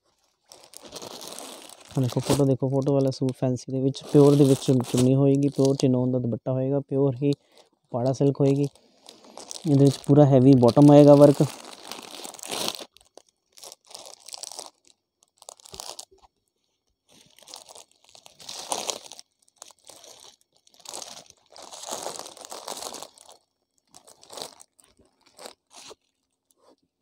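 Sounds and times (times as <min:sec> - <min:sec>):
plastic packets crinkling: 0:00.0 - 0:06.2, 0:07.1 - 0:16.3, 0:17.1 - 0:26.6.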